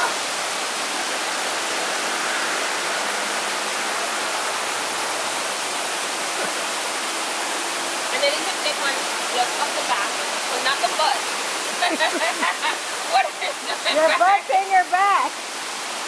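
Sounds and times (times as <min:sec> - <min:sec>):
water rushing over weir: 0:00.0 - 0:16.0.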